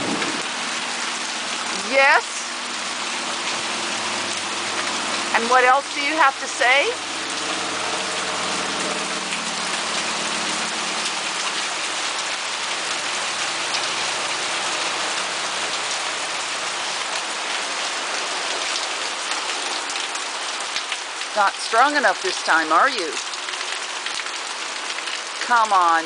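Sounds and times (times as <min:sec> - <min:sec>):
hail and heavy rain pelting: 0:00.0 - 0:25.9.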